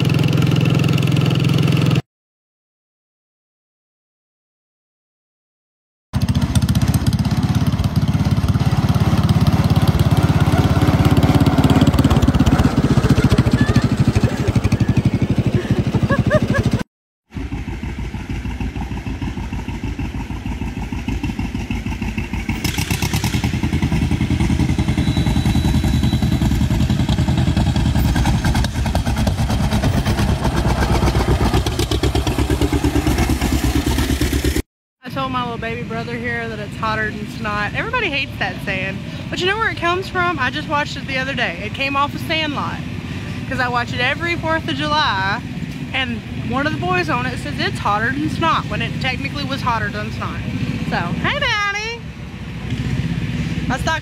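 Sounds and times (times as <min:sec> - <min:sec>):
tractor engine running: 0:00.0 - 0:02.0, 0:06.2 - 0:54.0.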